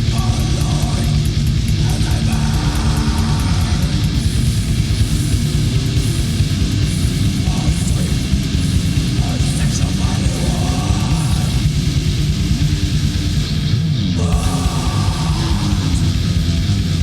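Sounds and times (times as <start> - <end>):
distorted electric guitars: 0.0 - 17.0
fast drums: 0.0 - 17.0.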